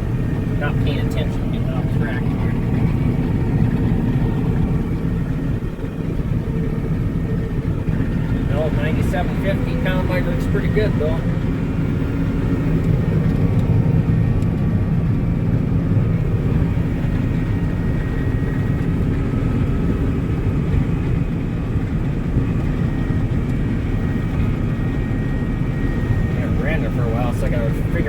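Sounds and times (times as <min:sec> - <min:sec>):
large engine droning: 0:00.0 - 0:28.0.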